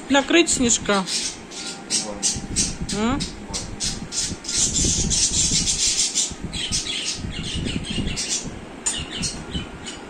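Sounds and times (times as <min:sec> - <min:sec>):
pet bird squawking and chirping: 0:00.9 - 0:10.0.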